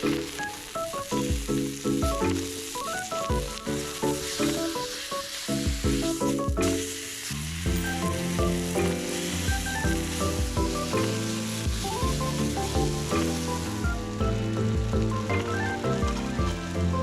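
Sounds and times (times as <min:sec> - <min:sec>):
background music with held notes: 0:00.0 - 0:17.0
meat sizzling in a pan: 0:00.0 - 0:17.0.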